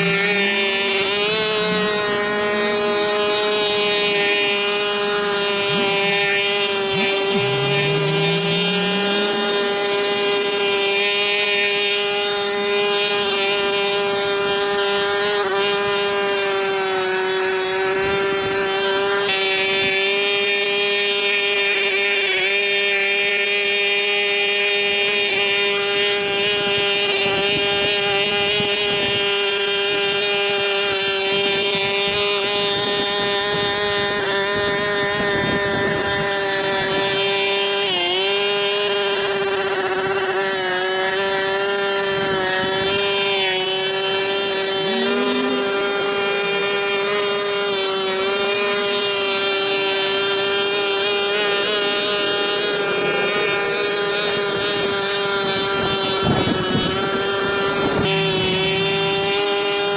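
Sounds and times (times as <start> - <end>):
small engine whining: 0.0 - 59.9.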